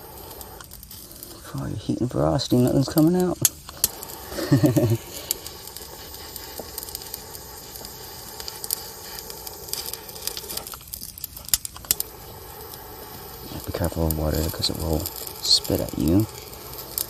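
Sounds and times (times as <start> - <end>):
crackles and sharp ticks: 0.0 - 17.0
torch flame hissing: 0.0 - 17.0.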